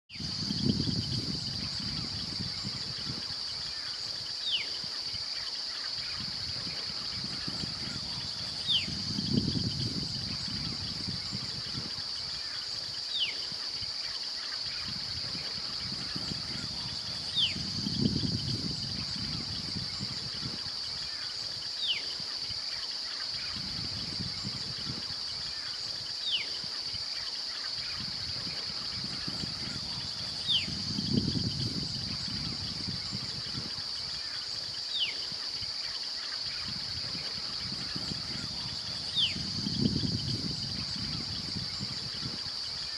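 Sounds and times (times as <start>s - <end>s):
high-pitched insect chorus: 0.1s - 42.9s.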